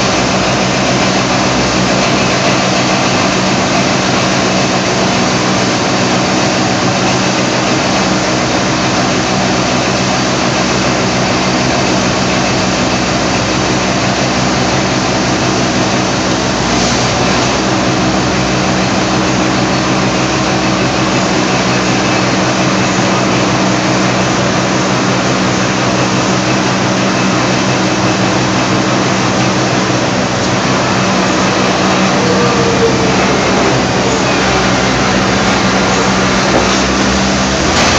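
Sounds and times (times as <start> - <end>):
transporter machine humming: 0.0 - 37.9.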